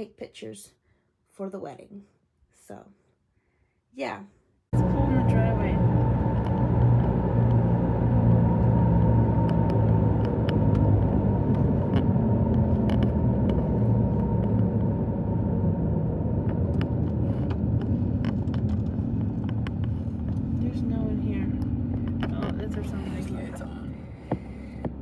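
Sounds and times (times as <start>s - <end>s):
car engine and tyres rumbling: 4.7s - 25.0s.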